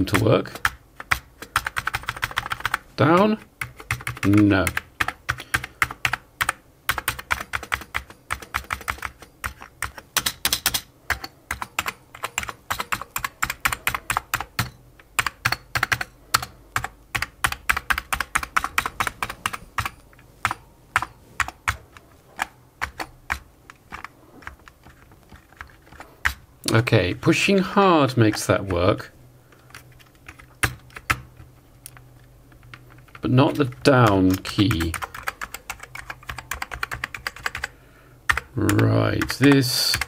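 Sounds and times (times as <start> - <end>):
keyboard keys clicking: 0.0 - 26.9, 28.1 - 37.7, 38.3 - 40.0.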